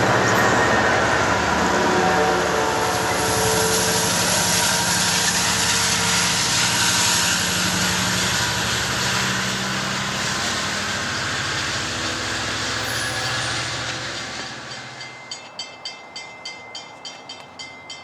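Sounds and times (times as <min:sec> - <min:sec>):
train rolling by on rails: 0:00.0 - 0:18.0.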